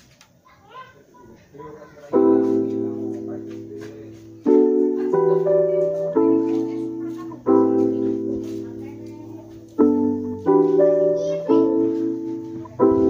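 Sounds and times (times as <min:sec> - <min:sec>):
keyboard chords: 0:02.0 - 0:13.0.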